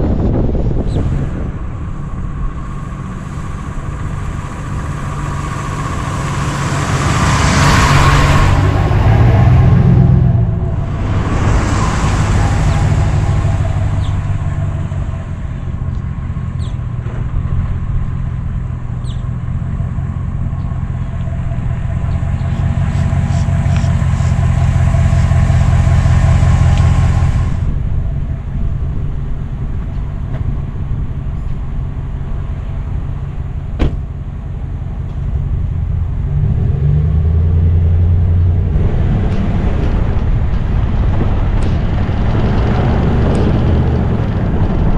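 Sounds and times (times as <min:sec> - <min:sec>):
pickup truck engine running: 0:00.0 - 0:44.9.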